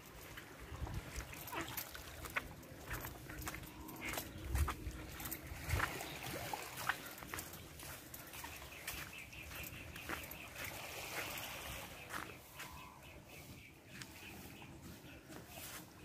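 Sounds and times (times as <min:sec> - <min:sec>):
small waves lapping: 0:00.0 - 0:15.8
footsteps crunching on sand: 0:00.0 - 0:16.0.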